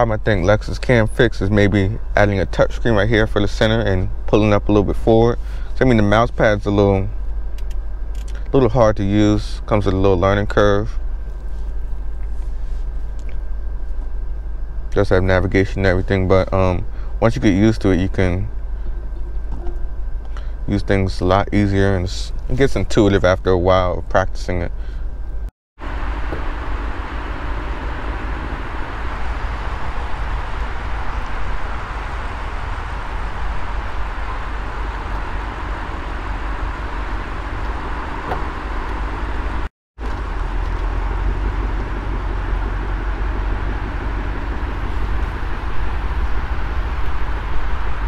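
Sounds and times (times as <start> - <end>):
car engine rumbling at low speed: 0.0 - 48.0.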